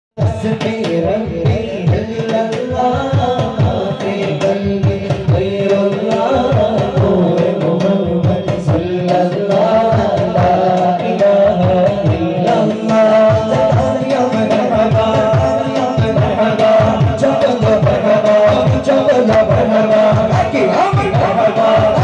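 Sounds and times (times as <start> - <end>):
man singing into a microphone: 0.2 - 22.0
steady drum beat: 0.2 - 22.0.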